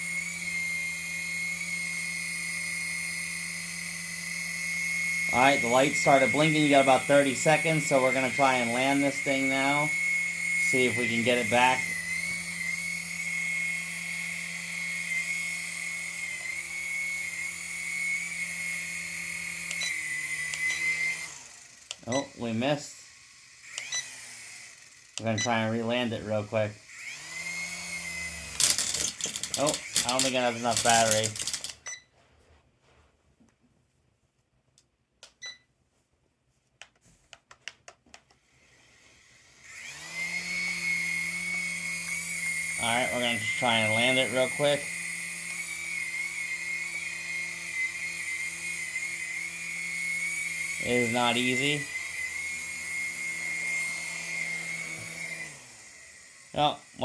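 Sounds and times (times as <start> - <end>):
toy helicopter rotor whine: 0.0 - 31.8, 38.5 - 57.0.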